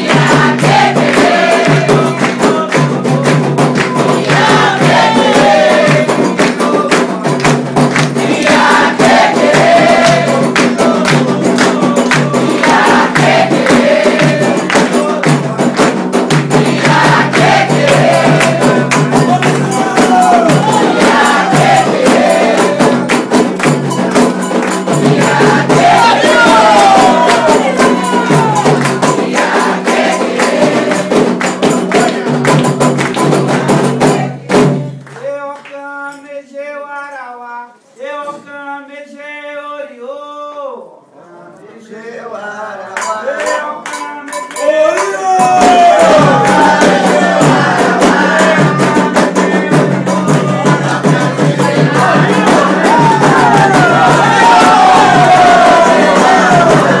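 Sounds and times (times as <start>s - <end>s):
fast percussion: 0.0s - 37.3s, 42.8s - 57.0s
voices singing: 0.0s - 57.0s.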